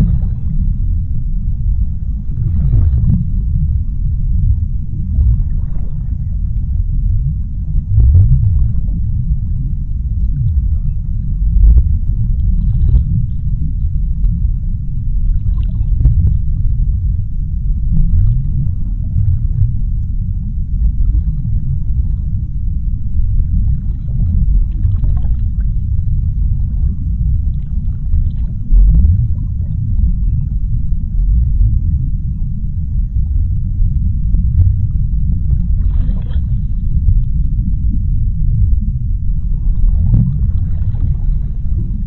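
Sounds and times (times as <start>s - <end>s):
deep underwater rumble: 0.0s - 42.0s
faint higher underwater sounds: 0.0s - 42.0s.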